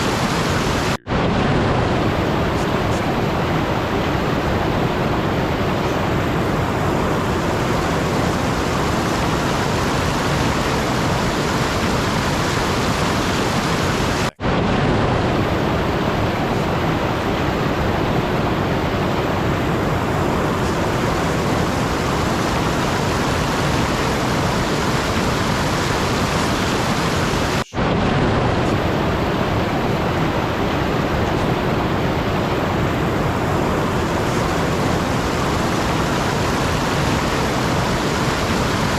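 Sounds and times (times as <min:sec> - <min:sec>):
steady rushing noise: 0:00.0 - 0:38.9.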